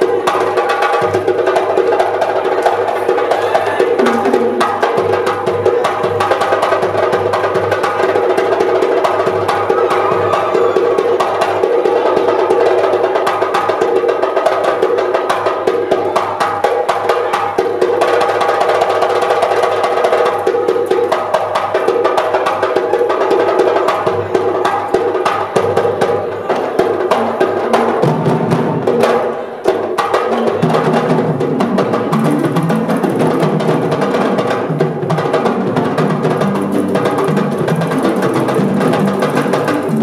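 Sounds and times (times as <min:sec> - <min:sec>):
drums played with hand and stick: 0:00.0 - 0:40.0.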